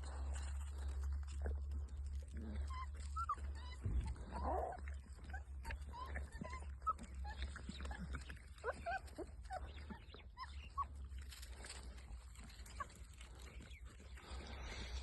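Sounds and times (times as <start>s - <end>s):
puppies squeaking and whimpering: 0.0s - 15.0s.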